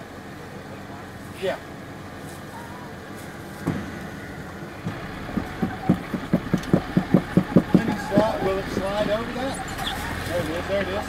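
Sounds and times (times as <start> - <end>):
vehicle engine running slowly: 0.0 - 11.0
rapid rhythmic pulsing: 1.7 - 11.0.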